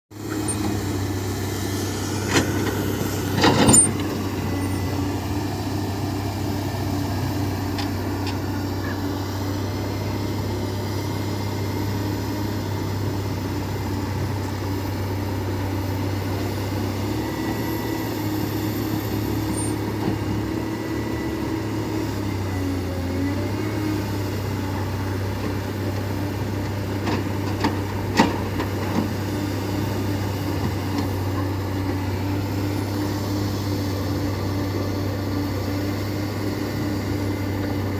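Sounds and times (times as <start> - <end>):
diesel engine running: 0.1 - 37.9.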